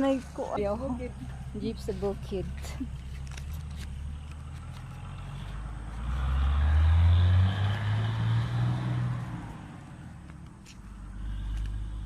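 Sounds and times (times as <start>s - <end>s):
engine accelerating: 0.8s - 12.0s.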